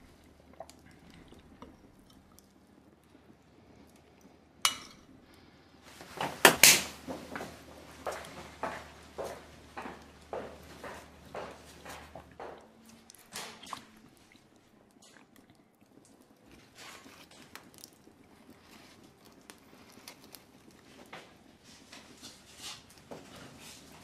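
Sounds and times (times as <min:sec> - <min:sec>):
faint eating sounds: 0:00.0 - 0:06.4, 0:07.0 - 0:24.0.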